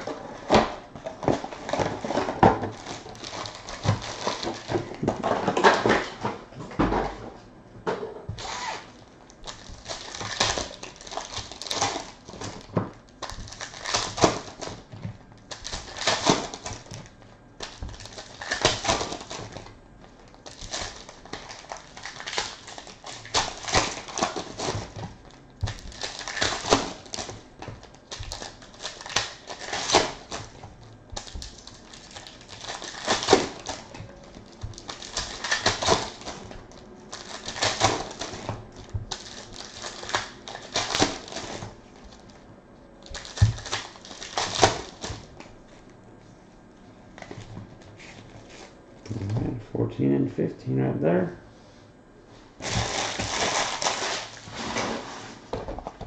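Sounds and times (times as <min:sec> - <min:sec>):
plastic wrappers crinkling and tearing: 0:00.0 - 0:06.2, 0:08.3 - 0:45.5, 0:52.6 - 0:56.0.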